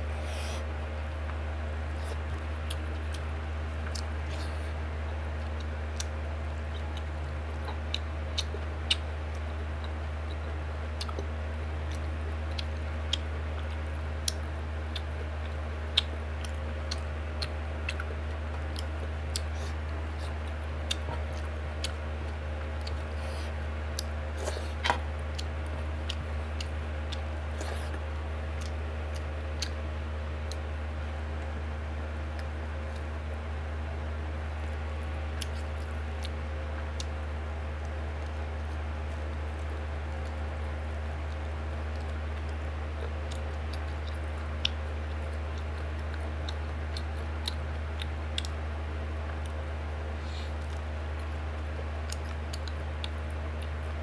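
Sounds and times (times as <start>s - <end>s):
person chewing food: 0.0s - 33.2s, 34.4s - 54.0s
steady low hum: 0.0s - 54.0s.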